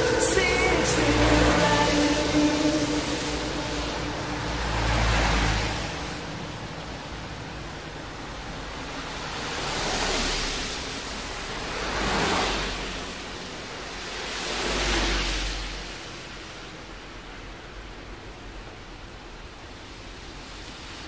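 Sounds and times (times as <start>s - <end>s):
rushing noise: 0.0s - 21.0s.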